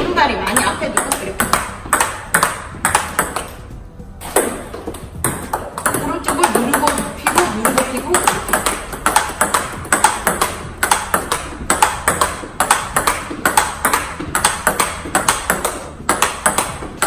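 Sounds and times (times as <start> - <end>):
ball bouncing on table: 0.5 - 17.0
ball clicking off paddles: 0.5 - 17.0.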